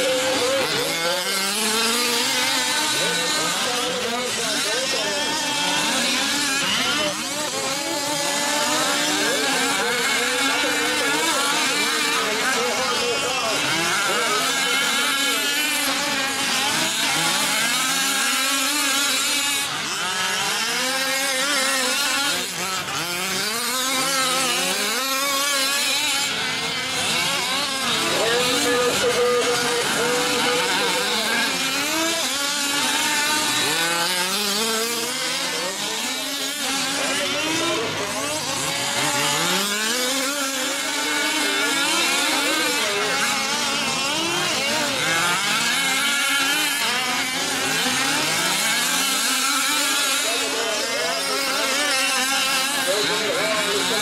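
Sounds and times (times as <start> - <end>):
small two-stroke engines racing: 0.0 - 54.0.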